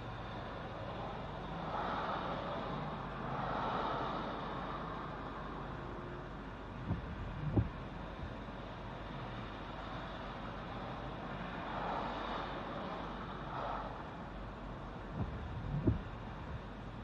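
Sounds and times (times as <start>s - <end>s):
car driving heard from inside: 0.0s - 17.0s.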